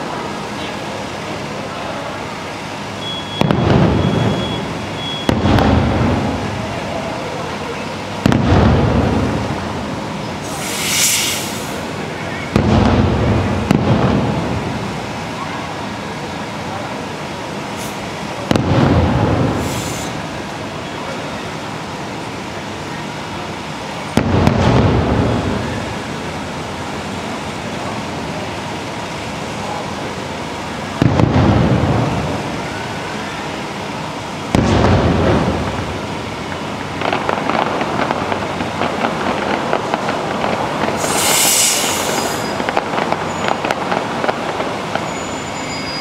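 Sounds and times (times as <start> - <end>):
fireworks booming: 0.0 - 46.0.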